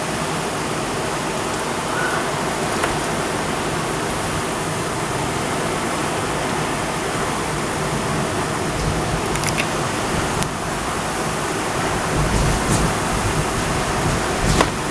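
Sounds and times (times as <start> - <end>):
heavy rain roar: 0.0 - 14.9
raindrops ticking close by: 1.3 - 14.9.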